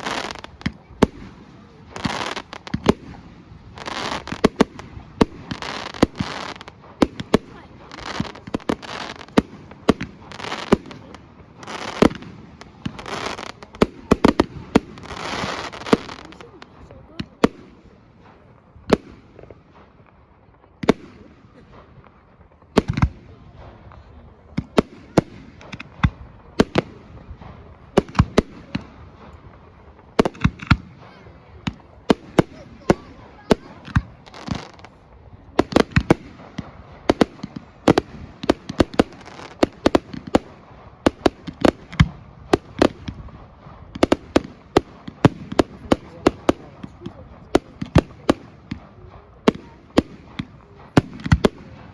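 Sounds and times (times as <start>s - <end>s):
fireworks exploding: 0.0s - 51.9s.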